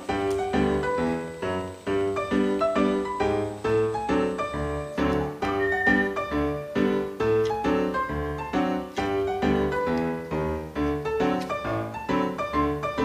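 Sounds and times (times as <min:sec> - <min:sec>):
upbeat ragtime piano tune: 0:00.0 - 0:13.0.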